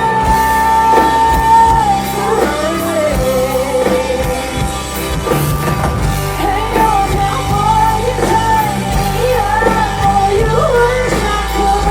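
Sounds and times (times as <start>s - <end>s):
live band playing: 0.0s - 11.9s.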